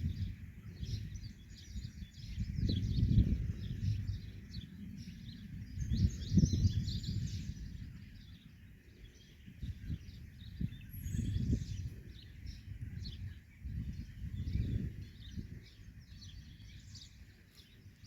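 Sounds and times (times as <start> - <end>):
low gusting rumble: 0.0 - 18.0
small birds chirping: 0.0 - 18.0.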